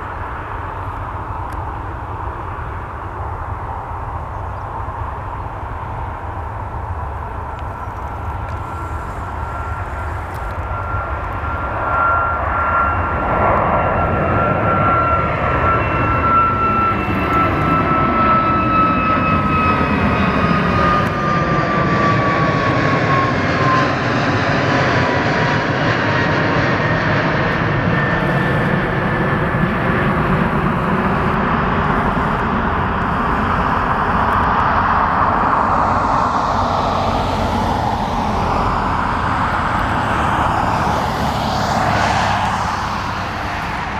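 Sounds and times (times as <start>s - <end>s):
high jet engine whine: 0.0s - 43.9s
jet engines roaring: 0.0s - 43.9s.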